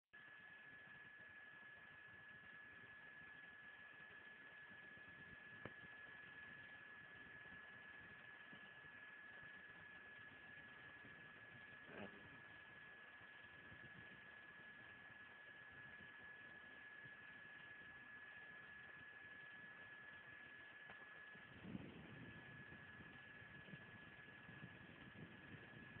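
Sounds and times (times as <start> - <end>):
thin high whine: 0.2 - 26.0.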